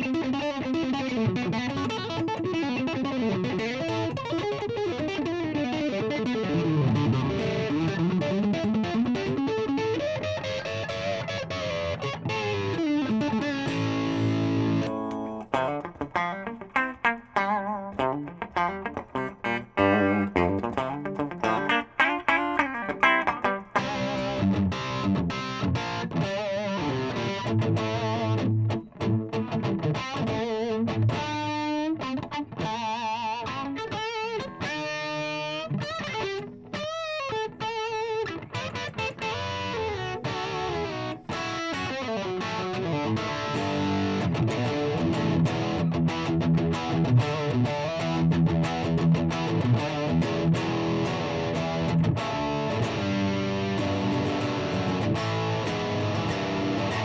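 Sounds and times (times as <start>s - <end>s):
overdriven electric guitar lead: 0.0s - 57.0s.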